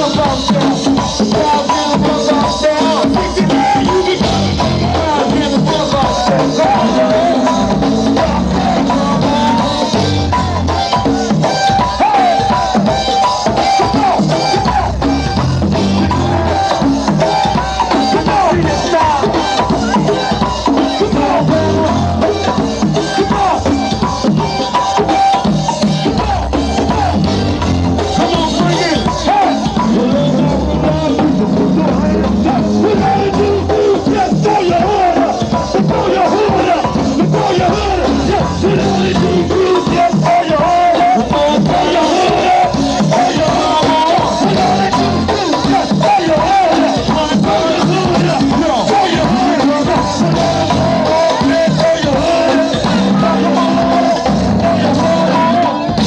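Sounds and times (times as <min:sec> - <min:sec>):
drum kit and hand percussion: 0:00.0 - 0:56.0
live band playing loudly: 0:00.0 - 0:56.0.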